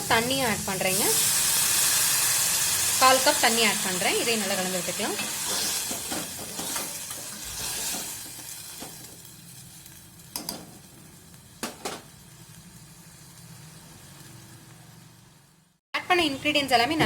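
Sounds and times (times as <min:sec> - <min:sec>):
masala sizzling in a hot pan: 0:00.0 - 0:17.0.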